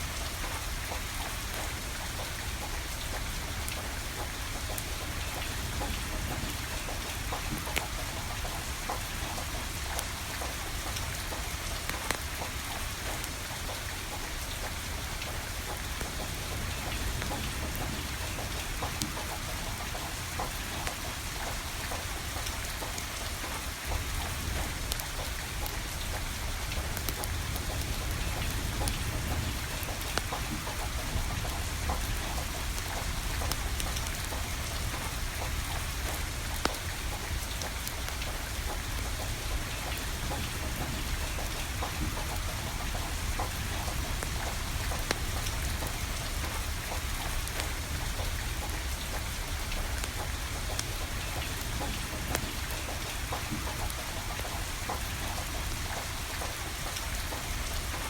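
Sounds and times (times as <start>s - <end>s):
steady rain falling: 0.0s - 58.0s
wood fire crackling: 0.1s - 58.0s.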